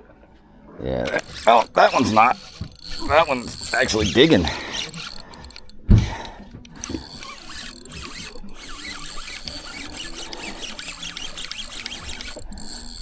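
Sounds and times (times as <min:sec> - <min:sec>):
fishing reel squeaking and clicking: 0:01.0 - 0:13.0.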